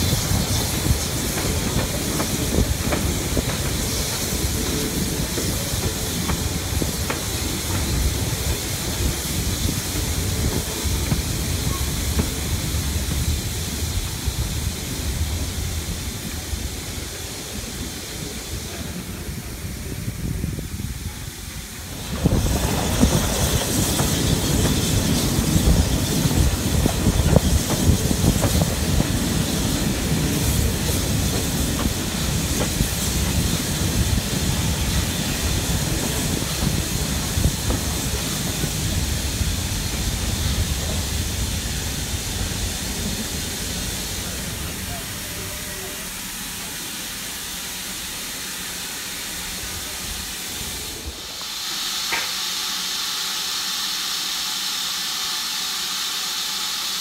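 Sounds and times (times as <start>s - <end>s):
train wheel clatter: 0.0s - 19.3s, 21.7s - 46.8s, 49.4s - 52.9s
steam hissing: 0.0s - 57.0s
steam train rumbling: 0.0s - 57.0s.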